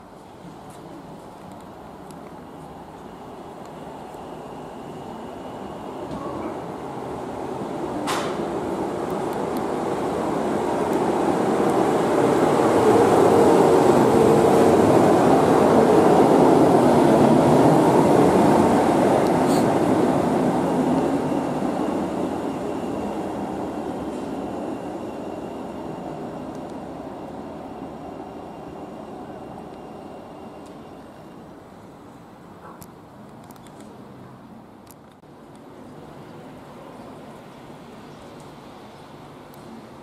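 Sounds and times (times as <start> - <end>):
tram wheels on rails: 0.0 - 40.0.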